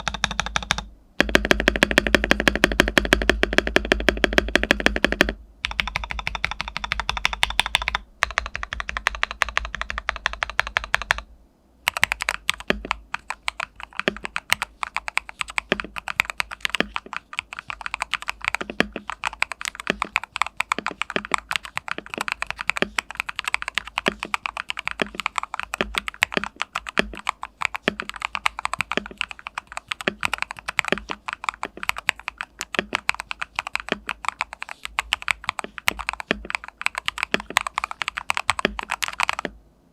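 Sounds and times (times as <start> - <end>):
mechanical keyboard typing: 0.0 - 11.3, 11.9 - 39.6.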